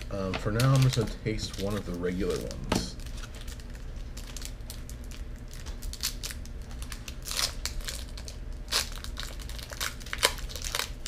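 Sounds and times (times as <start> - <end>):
candy wrapper crinkling: 0.0 - 11.0.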